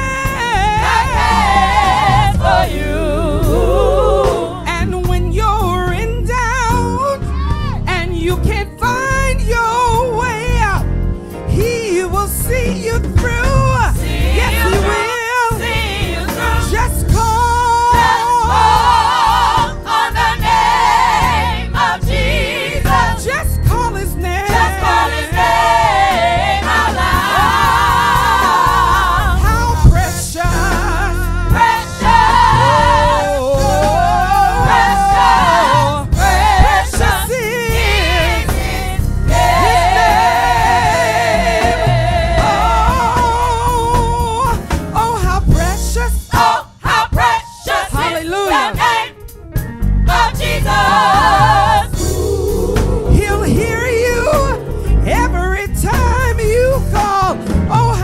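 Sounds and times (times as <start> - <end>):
gospel choir singing: 0.0 - 5.2, 13.3 - 55.3
steady bass line: 0.0 - 46.5, 49.5 - 58.0.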